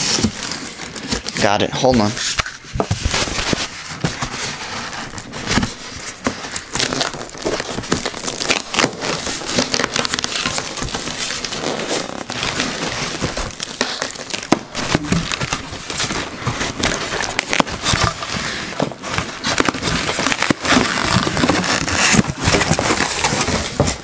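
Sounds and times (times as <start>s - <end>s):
plastic packing crinkling: 0.0s - 24.0s.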